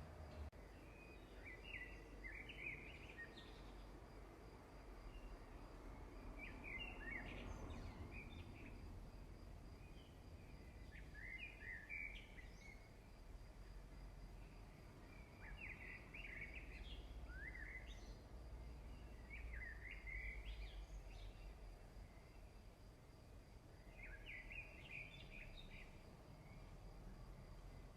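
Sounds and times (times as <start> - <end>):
faint bird song: 0.0 - 27.9.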